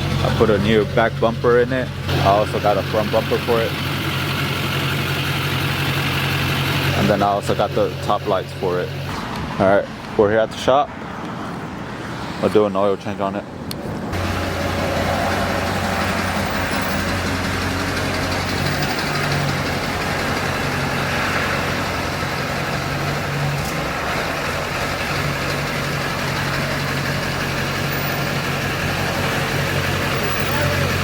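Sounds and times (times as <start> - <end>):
truck engine idling: 0.0 - 9.6, 13.6 - 31.0.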